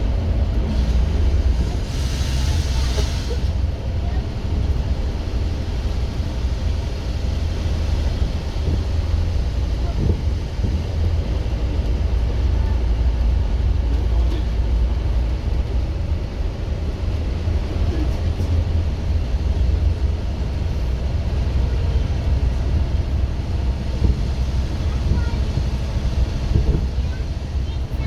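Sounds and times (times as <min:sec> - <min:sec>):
bus diesel engine droning: 0:00.0 - 0:28.0.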